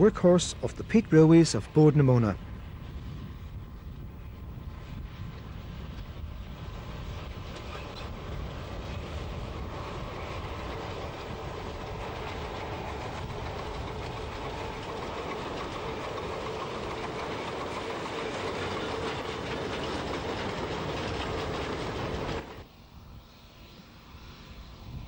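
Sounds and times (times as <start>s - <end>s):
train rattling along track: 0.0s - 22.8s.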